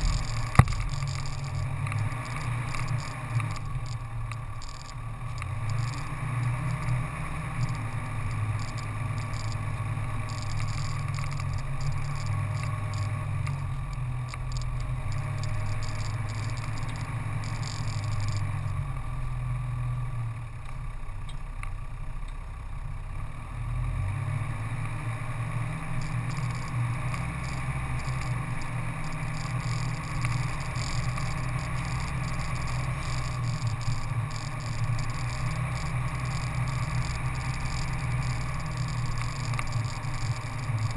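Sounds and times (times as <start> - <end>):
vehicle engine and tyres rumbling: 0.0 - 40.9.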